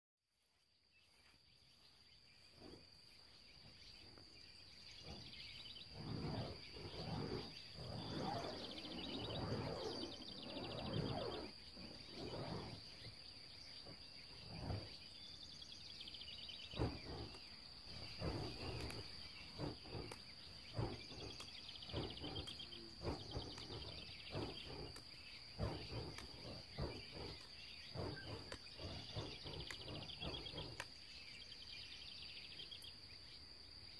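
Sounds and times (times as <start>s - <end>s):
insect drone: 0.4s - 33.9s
birds chirping: 1.0s - 33.2s.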